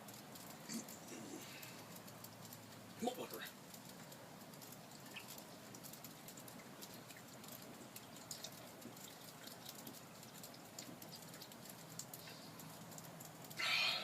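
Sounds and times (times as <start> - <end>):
light rain: 0.0 - 14.0.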